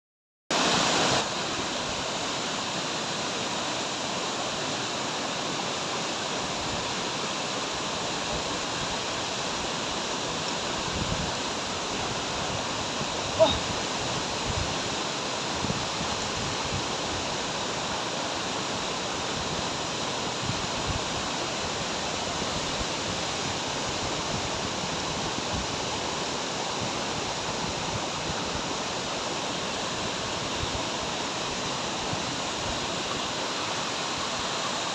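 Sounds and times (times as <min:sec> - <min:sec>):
waterfall rushing: 0:00.5 - 0:34.9.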